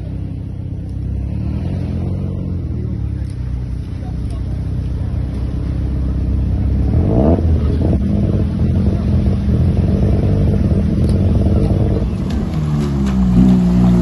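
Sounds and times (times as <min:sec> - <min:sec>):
deep steady car engine: 0:00.0 - 0:14.0
sports car engine revving: 0:00.0 - 0:14.0.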